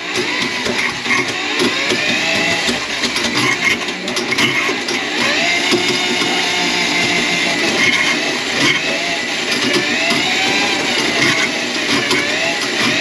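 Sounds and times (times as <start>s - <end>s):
drain-cleaning machine motor whine: 0.0s - 13.0s.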